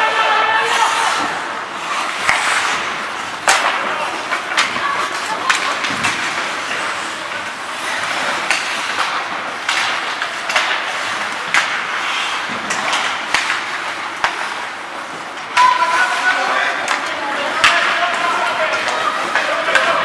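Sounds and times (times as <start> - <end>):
hockey sticks and puck clacking: 0.0 - 20.0
skate blades scraping ice: 0.0 - 20.0.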